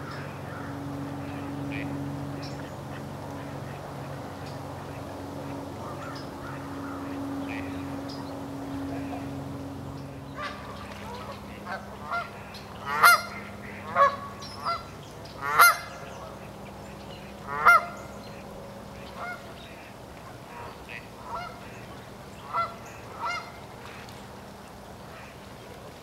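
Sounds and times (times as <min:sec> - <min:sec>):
geese honking: 0:00.0 - 0:24.1.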